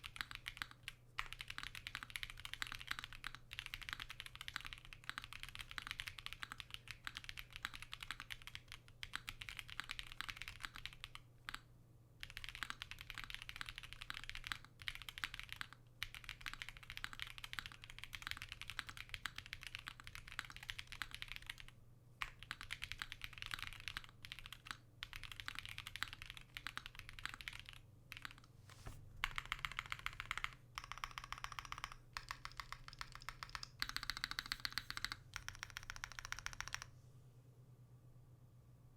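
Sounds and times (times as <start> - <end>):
mechanical keyboard typing clatter: 0.0 - 11.6, 12.2 - 28.5, 29.2 - 36.9.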